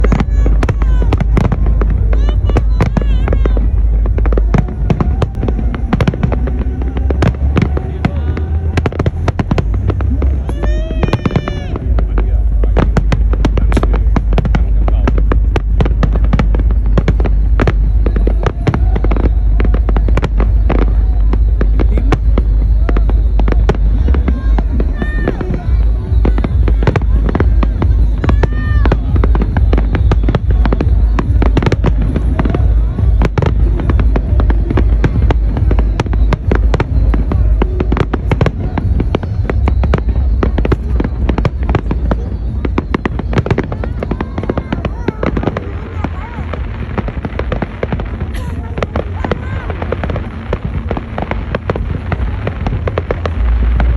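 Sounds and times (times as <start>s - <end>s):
fireworks sharp bangs: 0.0s - 53.9s
low rumble: 0.0s - 53.9s.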